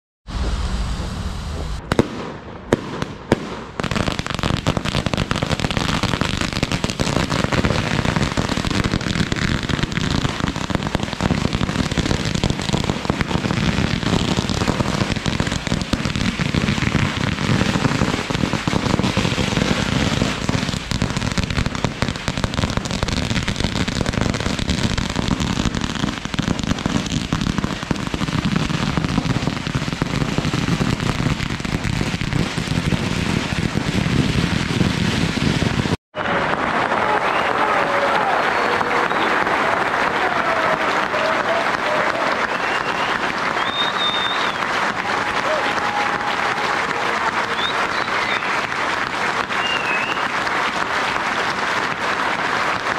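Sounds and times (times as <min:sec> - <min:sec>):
firecrackers crackling: 0:00.4 - 0:52.9.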